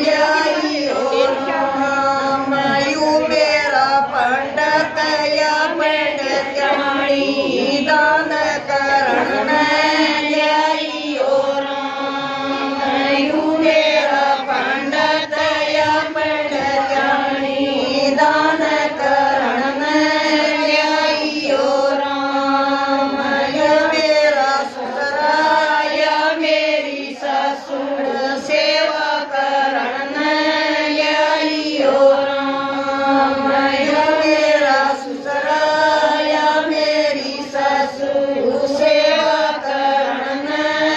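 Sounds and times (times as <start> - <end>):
women singing together: 0.0 - 40.9.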